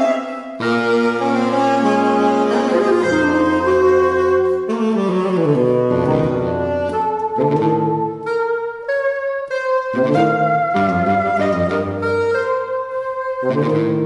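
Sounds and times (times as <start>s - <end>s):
saxophones playing in harmony: 0.0s - 14.0s.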